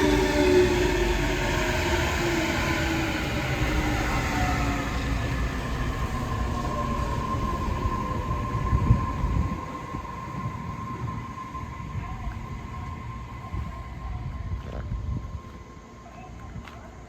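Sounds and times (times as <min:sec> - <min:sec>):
train high hum: 0:00.0 - 0:17.0
train wheel rumble: 0:00.0 - 0:17.0.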